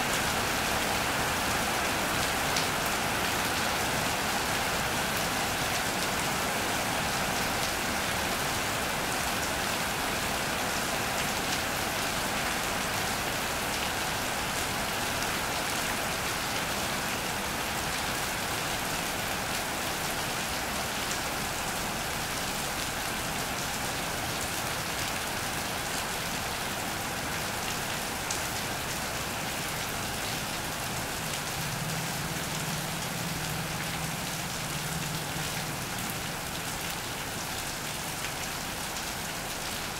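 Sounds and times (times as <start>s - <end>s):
rain on an iron roof: 0.0s - 39.9s.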